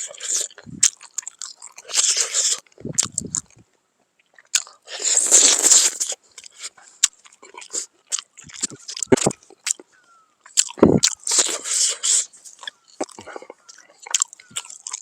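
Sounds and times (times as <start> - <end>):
person biting and chewing: 0.0 - 3.6, 4.2 - 15.0.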